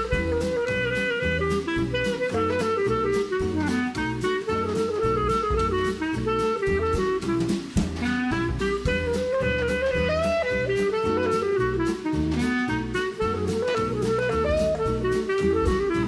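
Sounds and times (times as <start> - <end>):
drum kit beat: 0.0 - 16.0
jazz melody of held notes: 0.0 - 16.0.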